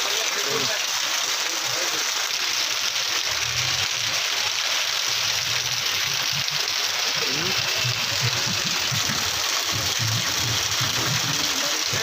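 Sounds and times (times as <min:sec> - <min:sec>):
torrential rain on a street: 0:00.0 - 0:12.0.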